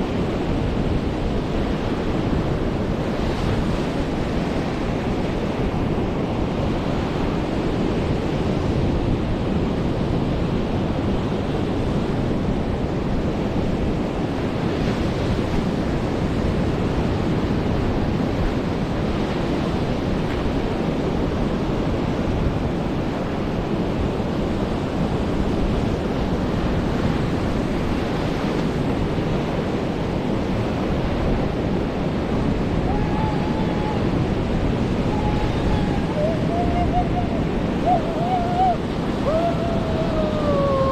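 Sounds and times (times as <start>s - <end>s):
waves breaking on a beach: 0.0s - 40.9s
wind buffeting microphone: 0.0s - 40.9s.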